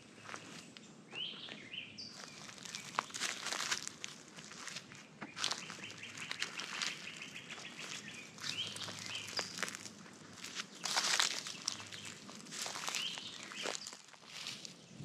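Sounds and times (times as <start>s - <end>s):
birds calling: 0.0s - 3.9s, 4.6s - 15.0s
footsteps crunching dry leaves: 2.1s - 15.0s.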